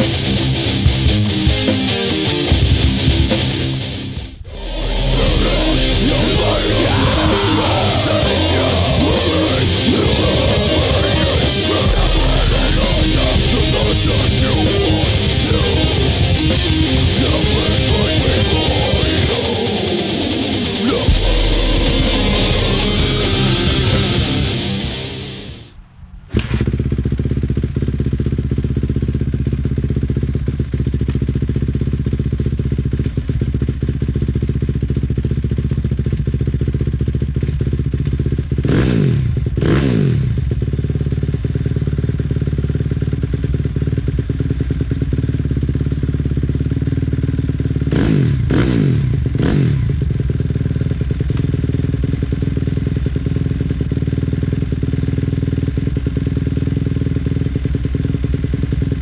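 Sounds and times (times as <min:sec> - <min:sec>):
motorcycle engine idling and revving: 0:00.0 - 0:25.6, 0:26.3 - 0:59.0.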